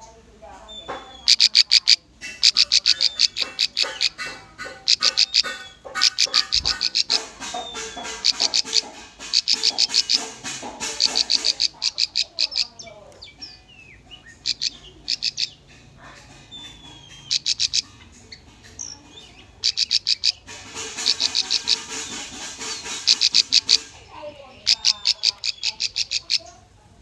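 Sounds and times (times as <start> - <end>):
quiet bird chirps and whistles: 0.0 - 26.7
prinia singing high notes: 0.7 - 15.7, 16.5 - 26.6.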